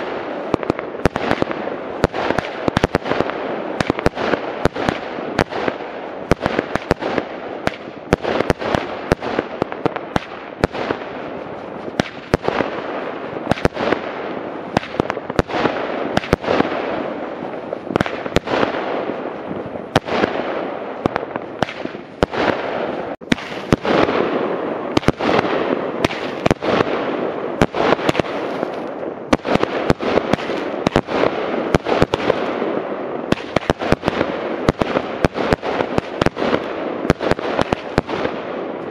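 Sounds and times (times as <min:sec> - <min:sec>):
crackling and hissing of firework sparks: 0:00.0 - 0:38.9
firework launch bangs and bursts: 0:00.0 - 0:38.9.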